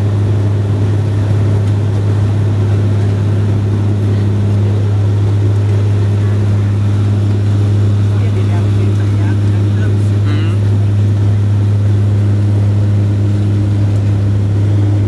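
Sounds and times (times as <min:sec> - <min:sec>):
turboprop plane taking off: 0:00.0 - 0:15.0.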